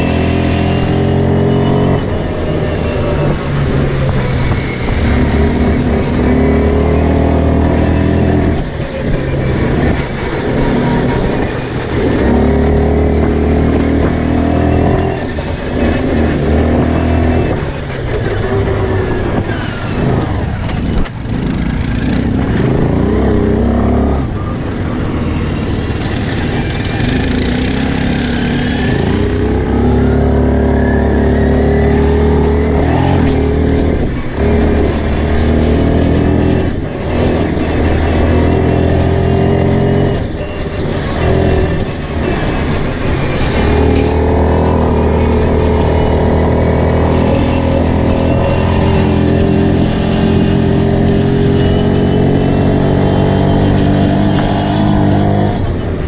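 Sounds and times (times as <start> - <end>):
quad bike engine revving: 0.0 - 56.0
wind and track noise: 0.0 - 56.0.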